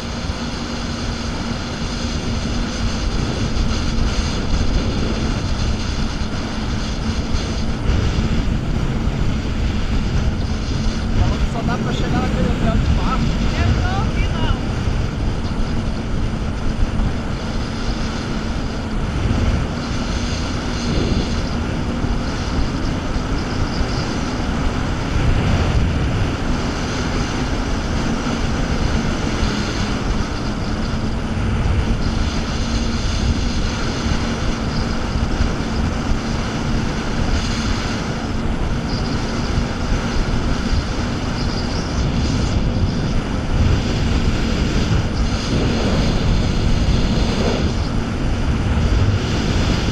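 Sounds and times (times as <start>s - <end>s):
jet ski engine running: 0.0s - 49.9s
water rushing in wake: 0.0s - 49.9s.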